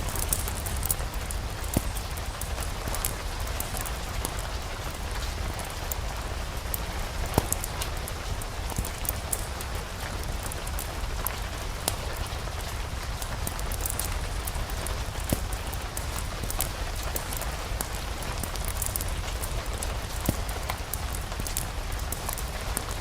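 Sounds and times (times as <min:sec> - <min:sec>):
sharp pops and ticks: 0:00.0 - 0:23.0
steady rain falling: 0:00.0 - 0:23.0.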